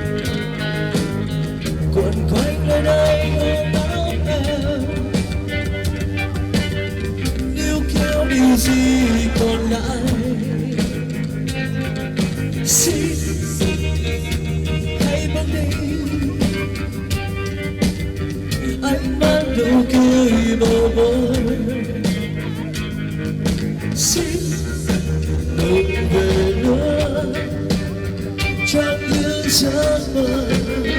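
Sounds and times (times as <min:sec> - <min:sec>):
bass: 0:00.0 - 0:30.9
rock band playing live: 0:00.0 - 0:30.9.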